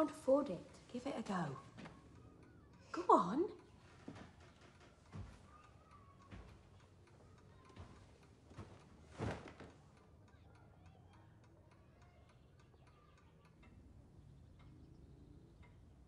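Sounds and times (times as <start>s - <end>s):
faint ticking: 0.0s - 16.0s.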